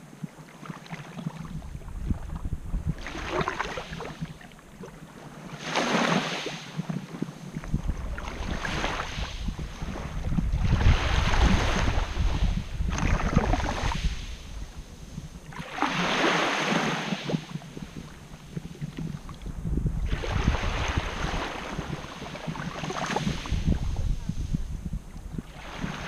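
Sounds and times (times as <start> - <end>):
small waves washing ashore: 0.0 - 26.0
wind buffeting microphone: 1.2 - 5.3, 6.8 - 26.0.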